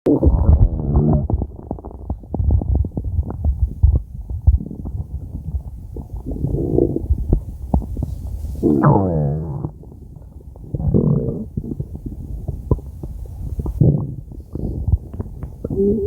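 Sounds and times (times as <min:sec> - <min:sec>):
stomach growling and gurgling: 0:00.1 - 0:16.0.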